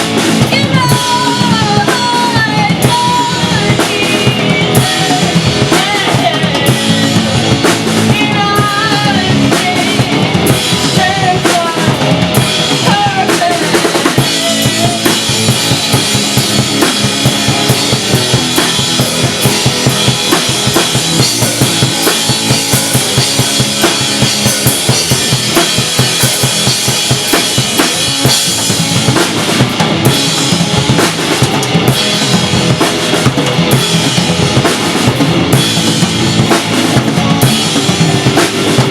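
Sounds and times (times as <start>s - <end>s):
drum kit played hard: 0.0s - 38.9s.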